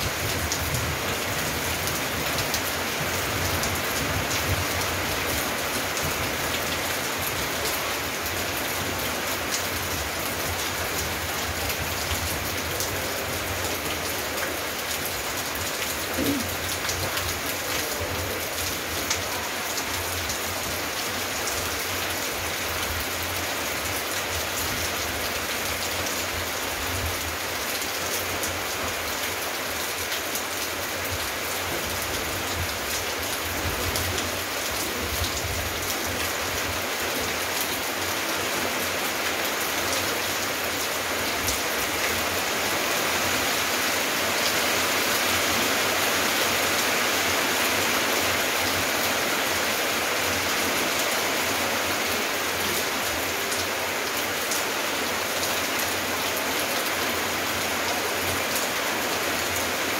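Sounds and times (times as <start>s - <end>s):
rain on paving and leaves: 0.0s - 59.9s.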